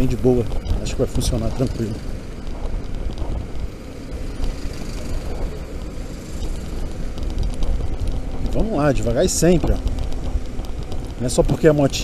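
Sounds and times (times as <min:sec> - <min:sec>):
road traffic noise: 0:00.0 - 0:12.0
wind rumble on microphone: 0:00.0 - 0:12.0.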